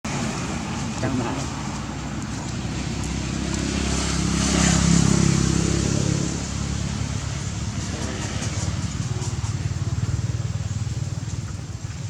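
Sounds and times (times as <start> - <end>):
vehicle engine passing by: 0.1 - 12.0.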